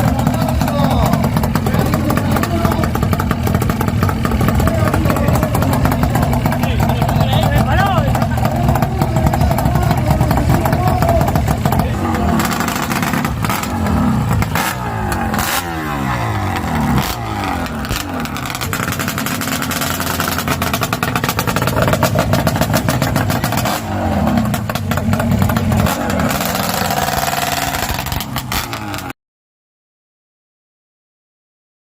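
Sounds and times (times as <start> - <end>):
motorcycle engine revving: 0.0 - 29.2.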